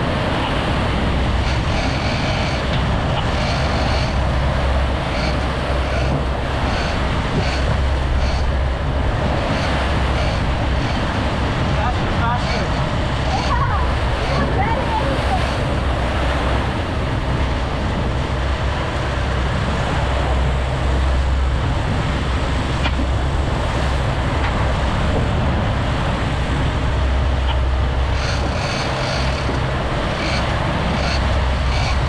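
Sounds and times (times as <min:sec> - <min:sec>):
boat engine rumbling: 0:00.0 - 0:32.0
wind: 0:00.0 - 0:32.0.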